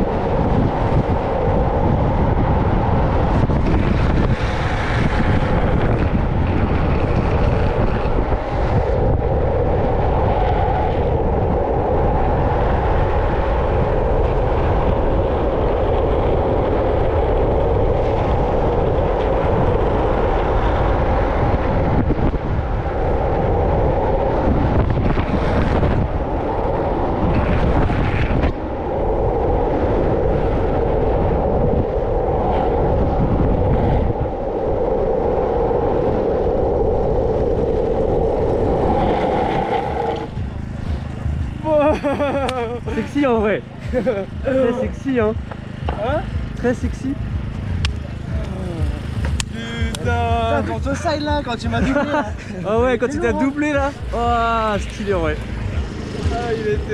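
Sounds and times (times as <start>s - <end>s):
skateboard wheels rolling on asphalt: 0.0s - 56.9s
wind rumbling on microphone: 0.0s - 56.9s.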